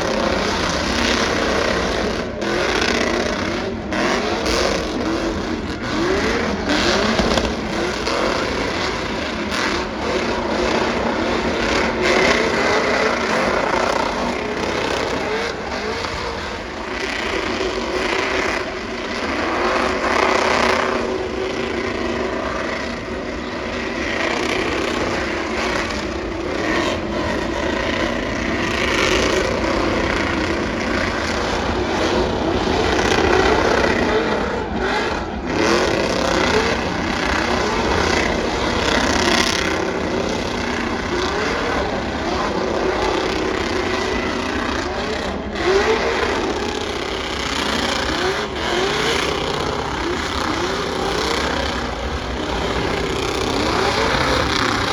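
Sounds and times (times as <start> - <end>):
continuous rushing noise: 0.0 - 54.9
vehicle engines revving: 0.0 - 54.9.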